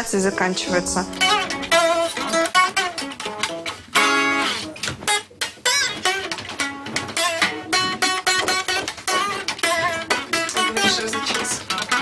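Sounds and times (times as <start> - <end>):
guitar chord ringing: 0.0 - 12.0
plucked guitar notes: 0.0 - 12.0.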